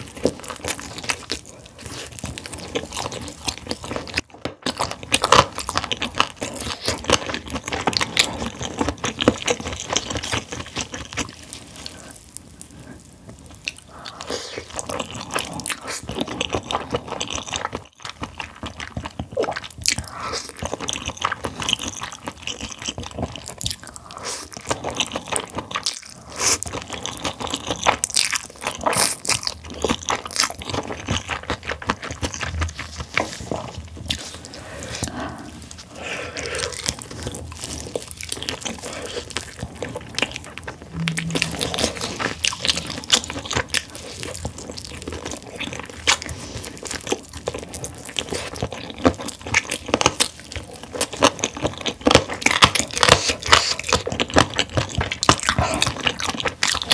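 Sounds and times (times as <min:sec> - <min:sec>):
chewing and slurping noodles: 0:00.0 - 0:56.9.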